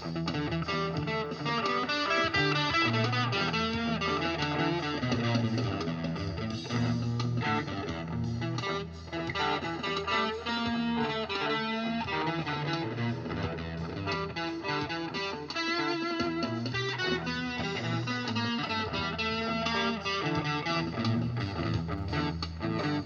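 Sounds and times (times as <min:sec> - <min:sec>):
overdriven electric guitar: 0:00.0 - 0:23.0.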